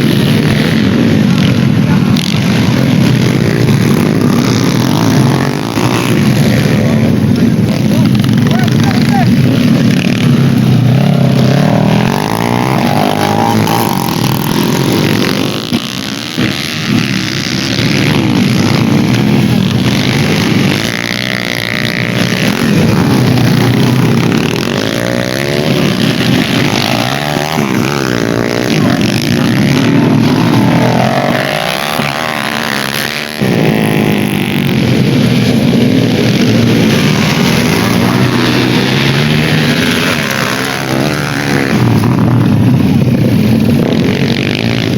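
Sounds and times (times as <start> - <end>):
dirt bike engines revving: 0.0 - 44.9.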